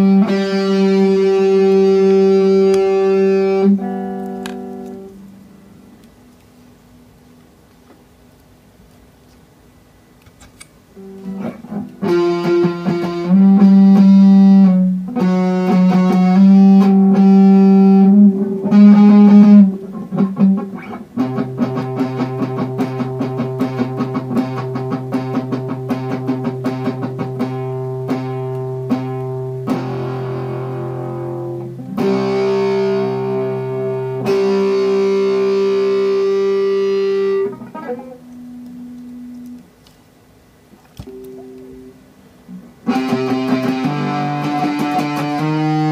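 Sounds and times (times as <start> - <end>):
distorted electric guitar: 0.0 - 7.0, 10.9 - 39.8, 41.0 - 45.9.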